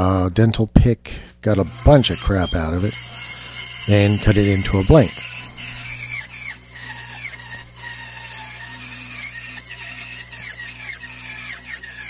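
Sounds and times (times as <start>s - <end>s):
bandsaw cutting log: 1.5s - 12.0s
high falling squeaks: 1.7s - 12.0s.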